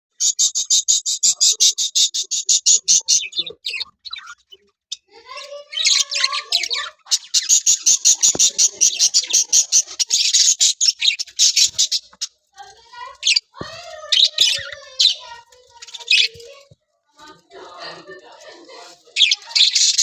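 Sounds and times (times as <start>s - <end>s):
small parrots chirping: 0.1s - 16.8s, 19.1s - 20.0s
parrots warbling chatter: 0.1s - 20.0s.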